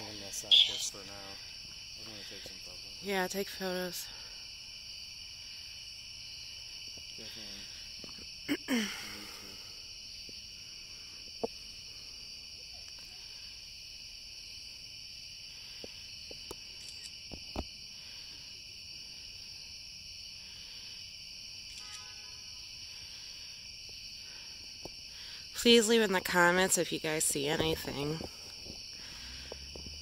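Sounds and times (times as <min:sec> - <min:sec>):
night insects droning: 0:00.0 - 0:30.0.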